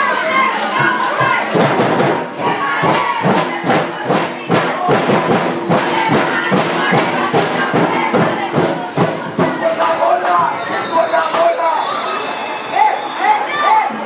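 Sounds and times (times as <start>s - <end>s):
music with busy percussion: 0.0s - 14.0s.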